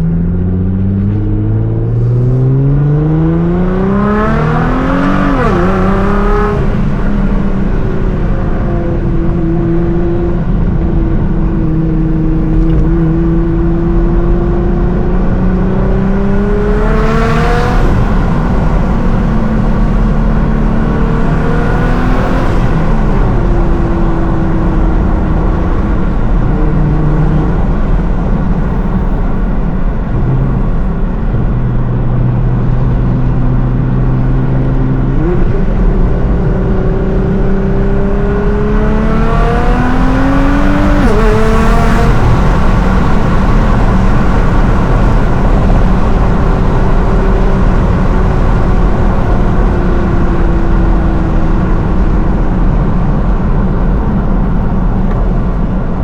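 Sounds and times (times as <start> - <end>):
car engine cruising and accelerating: 0.0 - 56.0.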